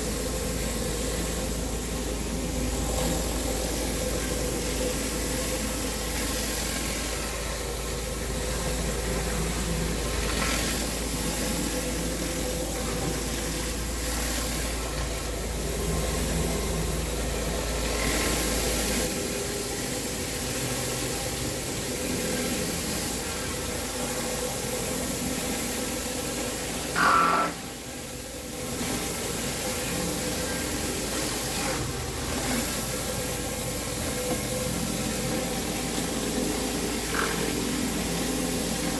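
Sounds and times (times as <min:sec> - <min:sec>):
pressure washer engine running: 0:00.0 - 0:38.9
water jet hissing on concrete: 0:00.0 - 0:38.9.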